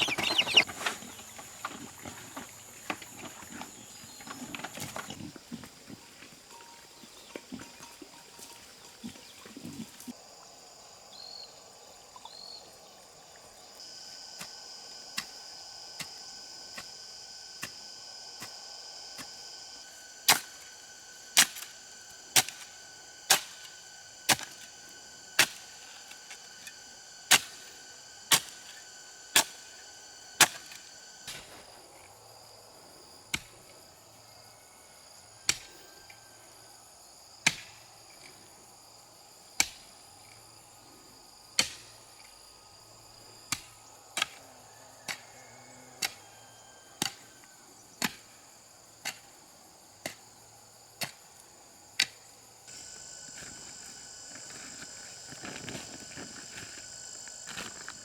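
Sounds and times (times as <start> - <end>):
high insect calls: 0.0 - 58.0.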